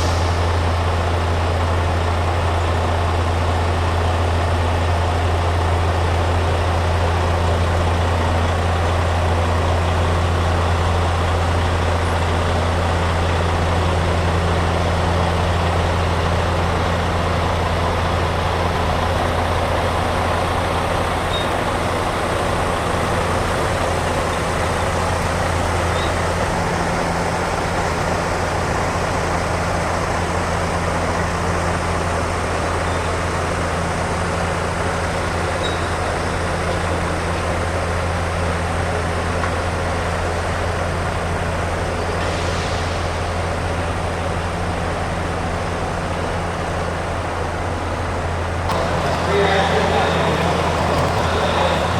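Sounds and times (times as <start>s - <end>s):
heavy truck engine droning: 0.0s - 51.9s.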